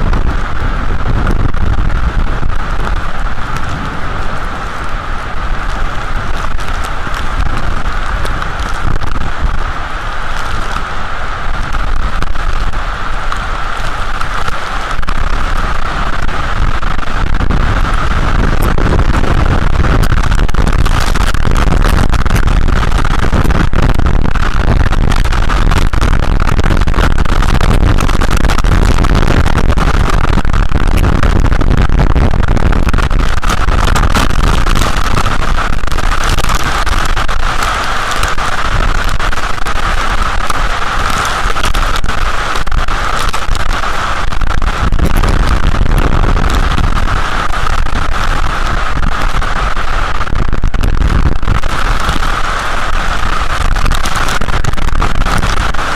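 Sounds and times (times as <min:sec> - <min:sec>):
heavy rain: 0:00.0 - 0:55.9
wind rumbling on microphone: 0:00.0 - 0:55.9
raindrops ticking: 0:00.1 - 0:55.9.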